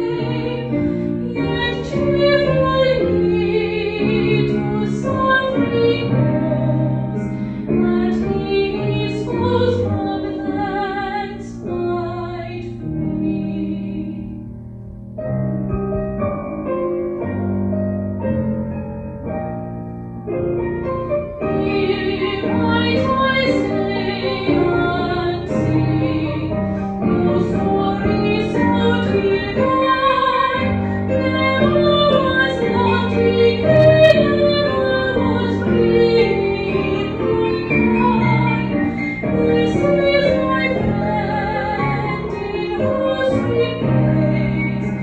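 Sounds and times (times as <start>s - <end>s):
woman singing: 0.0s - 14.4s, 21.5s - 45.0s
keyboard accompaniment: 0.0s - 45.0s.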